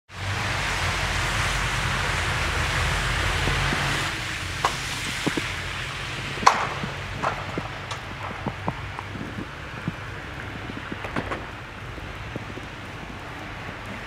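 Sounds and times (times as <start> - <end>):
wind rumbling on microphone: 0.1 - 14.0.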